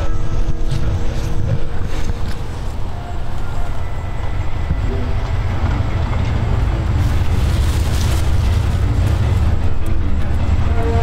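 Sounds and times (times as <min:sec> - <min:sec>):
car engine rumbling: 0:00.2 - 0:10.8.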